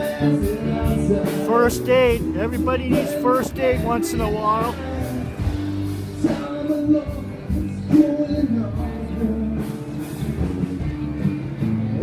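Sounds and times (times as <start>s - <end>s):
person singing: 0.0s - 10.3s
distant live rock band: 0.0s - 12.0s.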